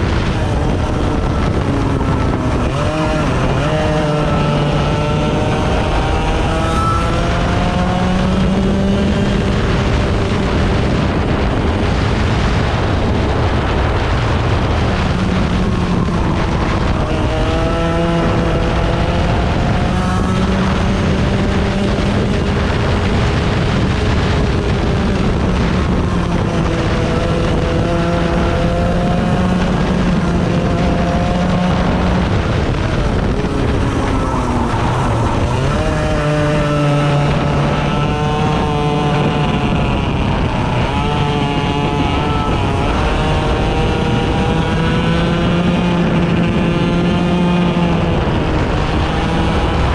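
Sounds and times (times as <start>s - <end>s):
racing engine revving: 0.0s - 49.9s.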